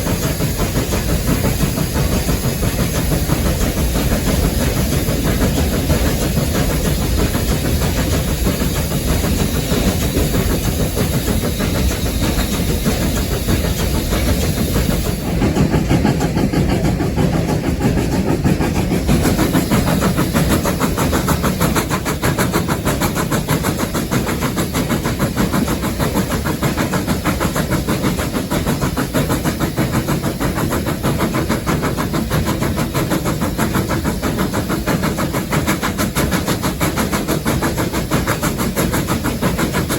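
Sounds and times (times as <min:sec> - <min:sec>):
locomotive rumble: 0:00.0 - 0:39.9
steam locomotive chuffing: 0:00.0 - 0:39.9.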